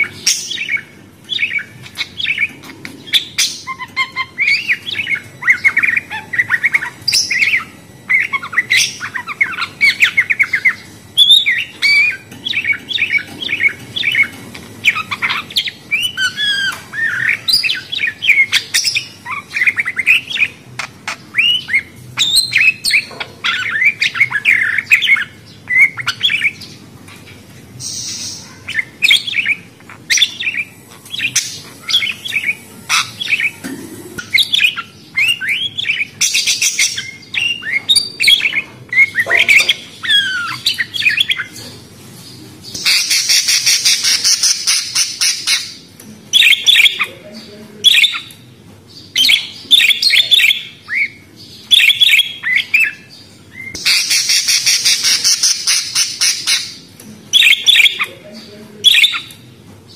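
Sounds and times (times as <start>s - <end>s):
small parrots chirping: 0.0s - 26.8s, 27.8s - 41.8s, 42.7s - 59.4s.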